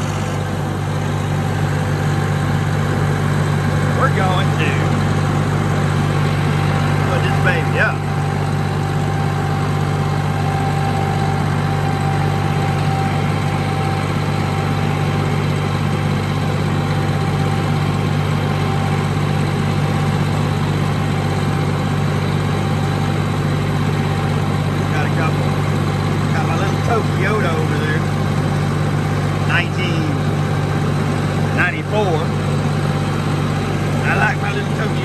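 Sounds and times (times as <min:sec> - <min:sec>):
thin steady whine: 0:00.0 - 0:35.0
tractor diesel engine running: 0:00.0 - 0:35.0.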